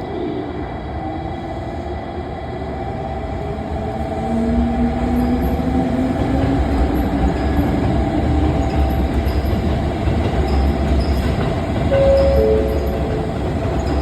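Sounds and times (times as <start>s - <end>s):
train rail rumble: 1.8s - 14.0s.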